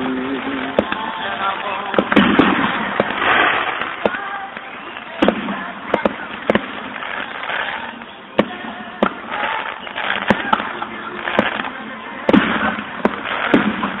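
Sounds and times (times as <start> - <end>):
fireworks bursting bangs: 0.0 - 14.0.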